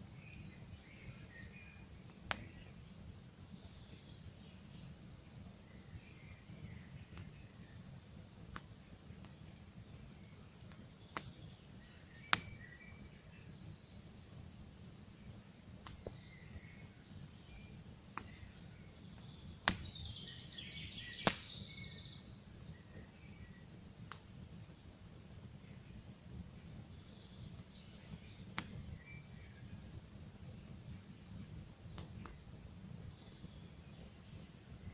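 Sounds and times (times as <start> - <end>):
small birds chirping: 0.0 - 34.9
campfire crackling and popping: 1.8 - 34.9.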